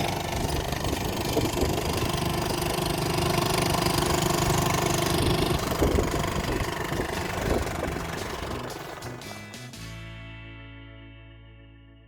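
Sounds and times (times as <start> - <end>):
boat engine idling: 0.0 - 9.7.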